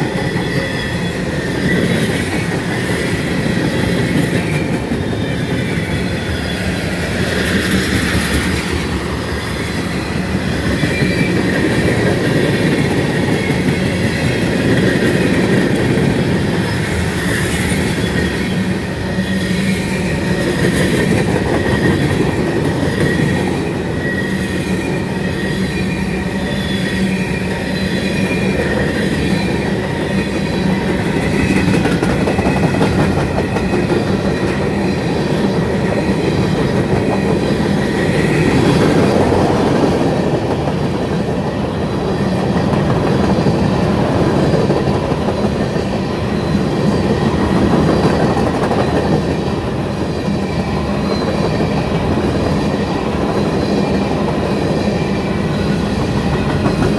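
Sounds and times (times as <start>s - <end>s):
high wheel squeal: 0.0s - 40.4s, 41.5s - 56.9s
clickety-clack over rail joints: 0.0s - 56.9s
train wheels rumbling on rail: 0.0s - 56.9s.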